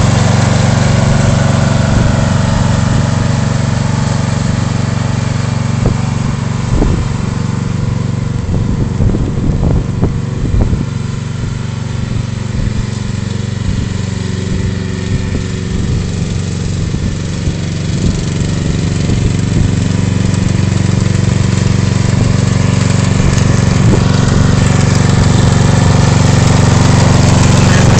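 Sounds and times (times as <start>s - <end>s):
lawn tractor engine running: 0.0s - 27.9s.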